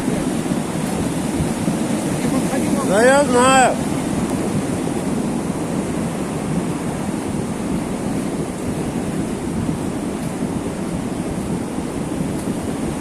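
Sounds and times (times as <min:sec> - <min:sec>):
flooded creek rushing: 0:00.0 - 0:13.0.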